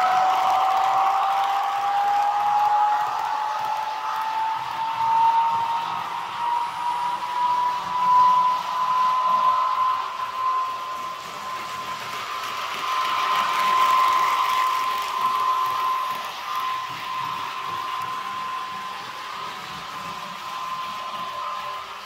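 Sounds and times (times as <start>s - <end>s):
model motor and gears whirring: 0.0s - 22.0s
model train running sound: 0.0s - 22.0s.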